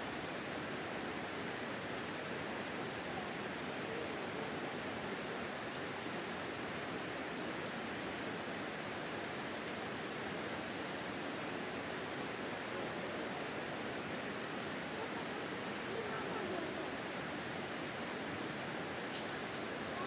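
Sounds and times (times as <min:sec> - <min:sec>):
campfire burning hiss: 0:00.0 - 0:20.0.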